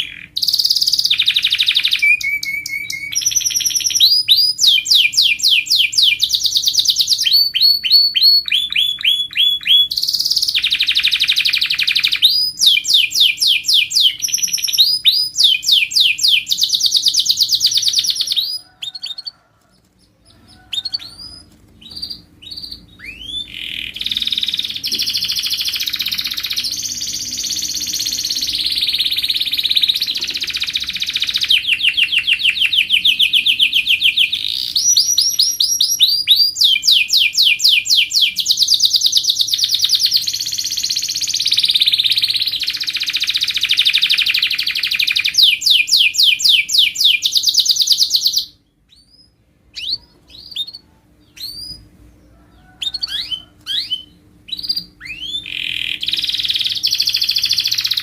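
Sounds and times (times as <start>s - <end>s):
canary chirps: 0.0s - 58.0s
canary singing trills: 0.0s - 58.0s
faint low hum: 0.0s - 58.0s.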